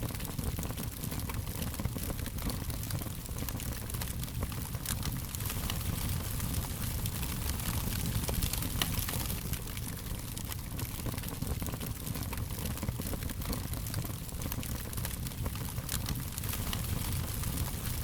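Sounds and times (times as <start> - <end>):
rumble and hiss of burning: 0.0 - 18.0
wood fire crackling: 0.0 - 18.0.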